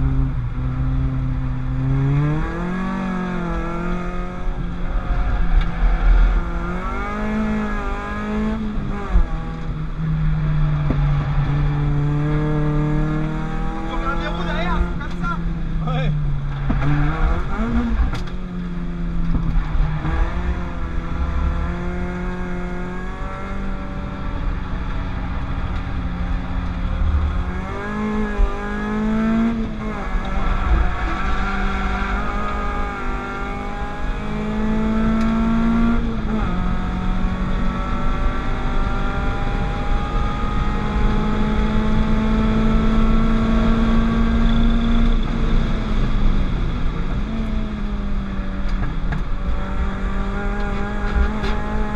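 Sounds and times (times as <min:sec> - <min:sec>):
car engine accelerating through gears: 0:00.0 - 0:51.9.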